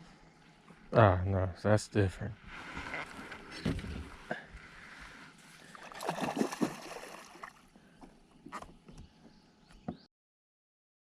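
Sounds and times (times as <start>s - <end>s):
water around a boat: 0.0s - 10.0s.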